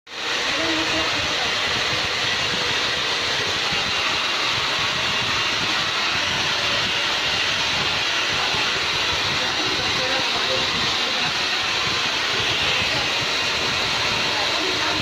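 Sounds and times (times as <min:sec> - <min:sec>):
hair dryer running: 0:00.1 - 0:15.0.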